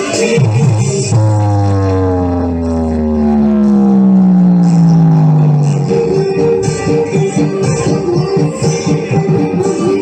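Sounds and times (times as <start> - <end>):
loud music over sound system: 0.0 - 10.0.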